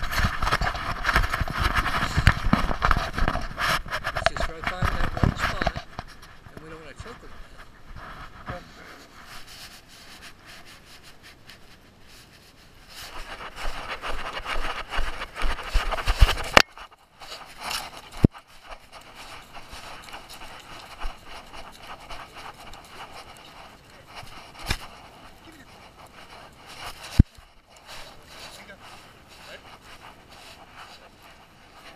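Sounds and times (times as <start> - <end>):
rubbing against camera: 0.0 - 31.9.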